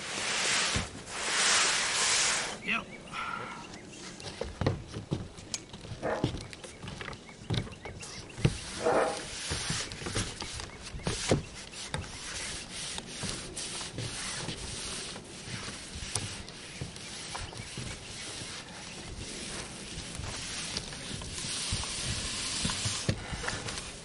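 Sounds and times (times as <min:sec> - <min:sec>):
broom scratching on rubber roofing: 0:00.0 - 0:02.6, 0:05.9 - 0:24.0.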